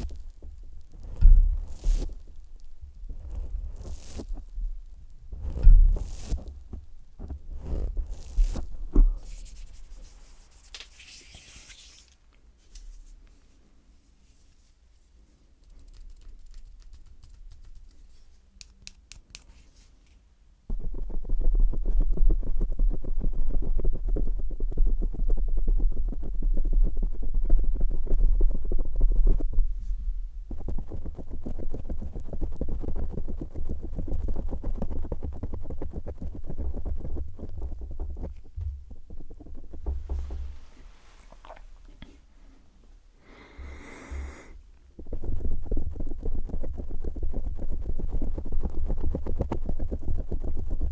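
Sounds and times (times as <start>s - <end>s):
low rumbling rub on microphone: 0.0s - 12.1s, 20.7s - 42.6s, 43.5s - 50.9s.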